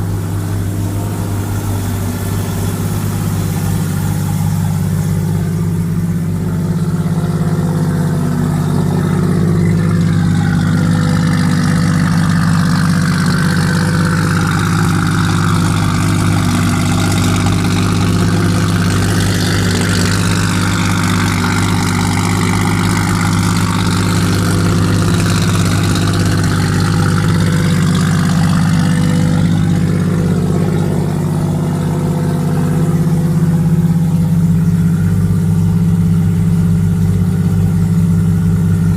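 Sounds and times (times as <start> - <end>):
rotary engine idling: 0.0 - 38.9.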